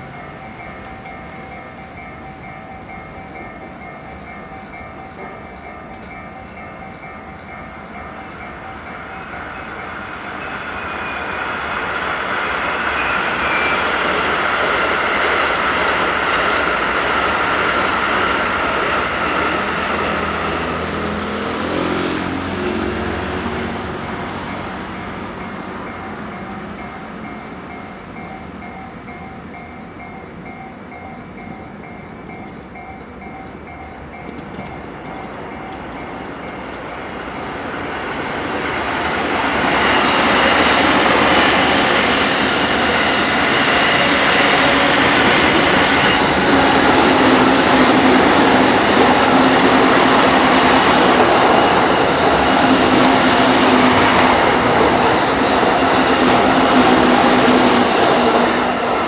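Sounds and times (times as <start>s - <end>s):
level-crossing bell dinging: 0.0s - 15.9s, 22.6s - 59.0s
train wheels on rails: 0.0s - 59.0s.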